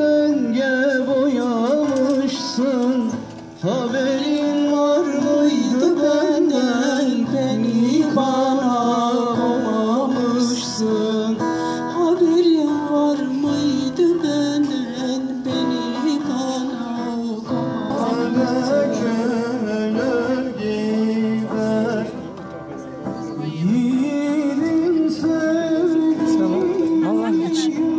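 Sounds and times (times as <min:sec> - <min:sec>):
strummed acoustic guitar: 0:00.0 - 0:27.9.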